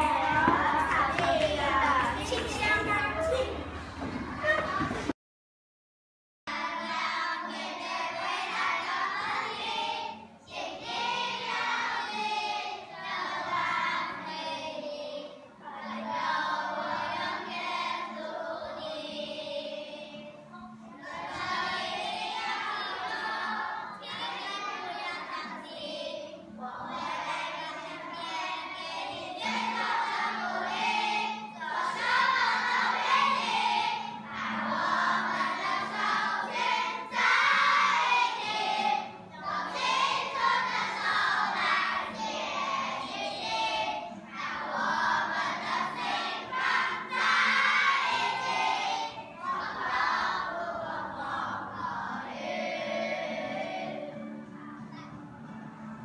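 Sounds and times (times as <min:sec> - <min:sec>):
children singing in unison: 0:00.0 - 0:02.2, 0:06.5 - 0:55.2.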